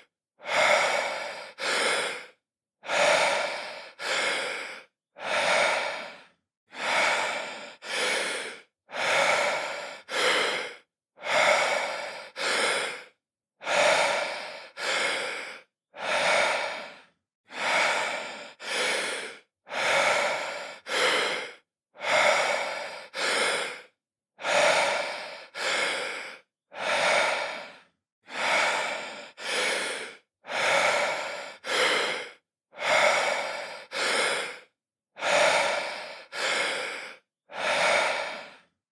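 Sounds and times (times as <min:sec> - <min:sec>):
man breathing deeply: 0:00.0 - 0:38.8.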